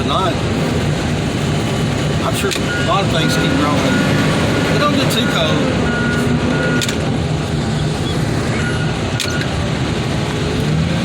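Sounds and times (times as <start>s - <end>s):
heavy diesel equipment running: 0.0s - 11.0s.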